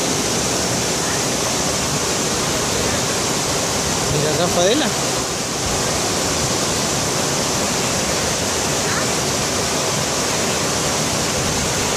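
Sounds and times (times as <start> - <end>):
stream rushing over rocks: 0.0 - 11.9.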